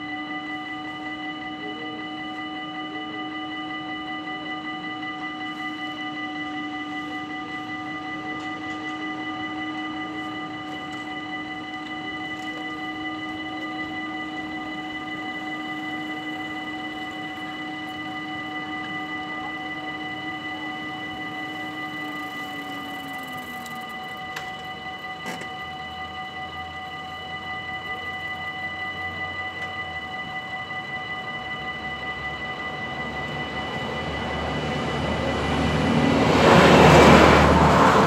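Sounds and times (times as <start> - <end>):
level crossing warning bells: 0.0 - 38.0.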